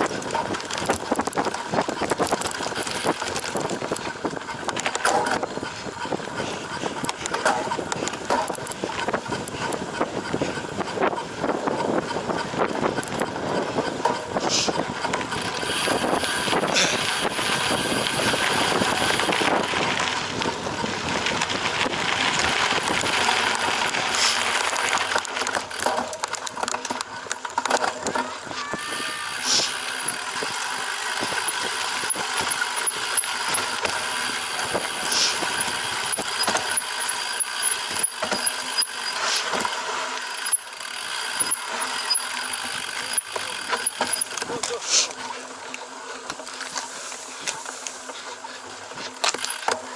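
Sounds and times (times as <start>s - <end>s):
bike rattling over rough ground: 0.0s - 49.9s.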